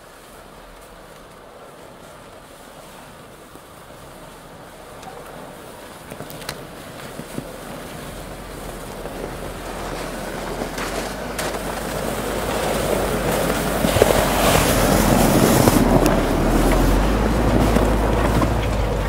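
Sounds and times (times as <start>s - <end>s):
car driving through snow: 0.0s - 19.0s.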